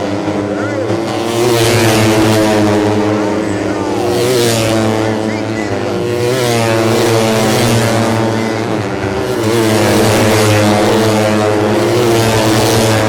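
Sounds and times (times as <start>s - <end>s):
race motorcycles accelerating: 0.0s - 13.0s.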